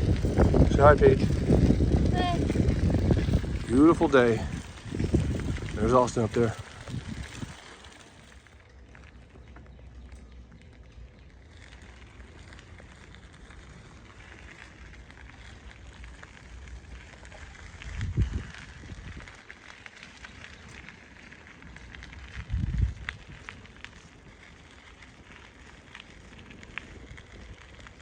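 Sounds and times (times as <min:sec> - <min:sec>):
bicycle tyres crunching on trail: 0:00.0 - 0:28.0
low rumbles: 0:00.0 - 0:28.0.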